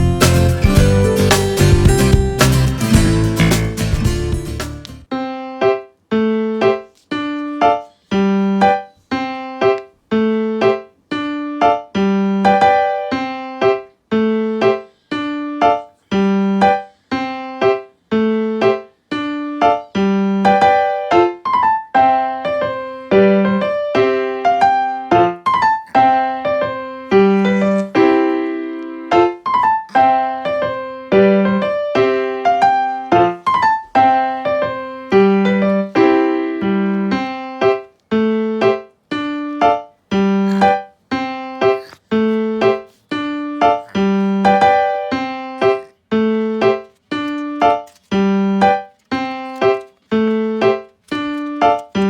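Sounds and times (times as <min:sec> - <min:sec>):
bouncy piano tune: 0:00.0 - 0:52.0.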